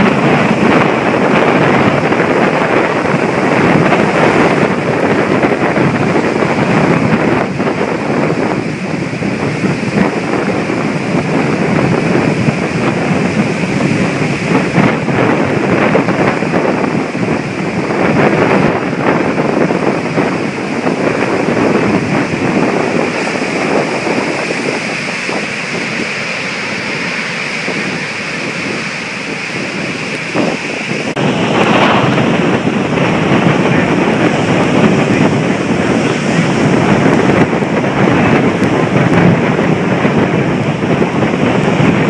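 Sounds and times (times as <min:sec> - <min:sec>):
heavy surf breaking: 0:00.0 - 0:42.0
wind buffeting microphone: 0:00.0 - 0:42.0.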